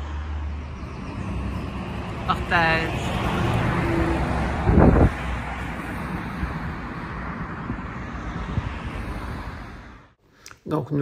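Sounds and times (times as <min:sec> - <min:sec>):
road traffic noise: 0:00.0 - 0:10.6.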